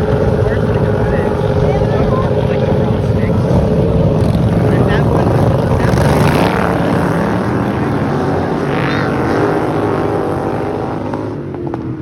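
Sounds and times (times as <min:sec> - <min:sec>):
racing lawn mower engines: 0:00.0 - 0:12.0.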